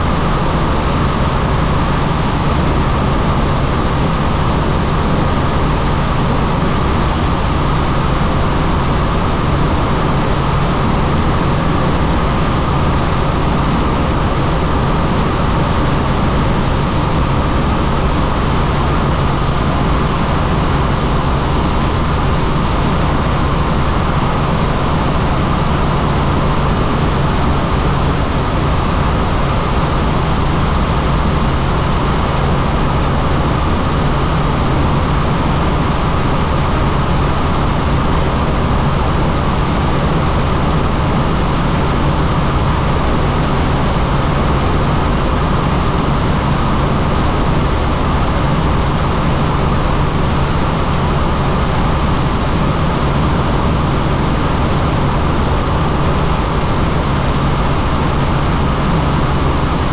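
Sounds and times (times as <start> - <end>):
helicopter engine and rotor drone: 0.0 - 59.9
low hum: 0.0 - 59.9.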